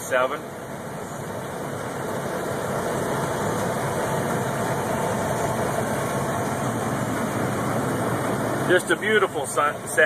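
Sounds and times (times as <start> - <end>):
combine harvester drone: 0.0 - 10.0.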